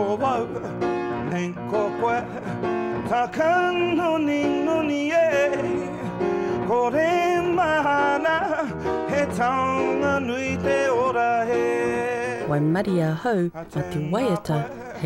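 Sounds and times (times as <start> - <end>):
man singing: 0.0 - 12.5, 13.5 - 15.0.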